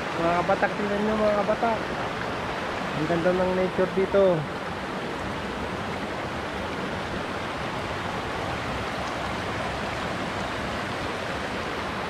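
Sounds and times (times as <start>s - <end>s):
running water rushing: 0.0s - 12.0s.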